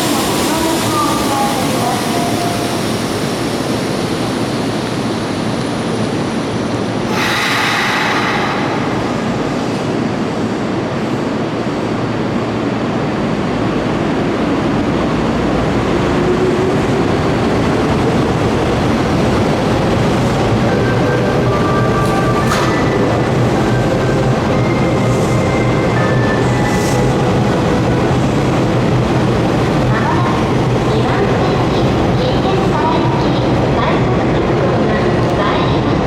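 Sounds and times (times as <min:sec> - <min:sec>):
train wheels and motors rumbling: 0:00.0 - 0:36.0.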